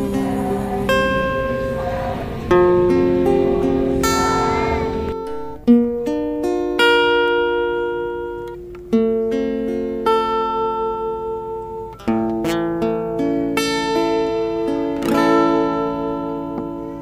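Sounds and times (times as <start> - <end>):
slow acoustic guitar: 0.0 - 17.0.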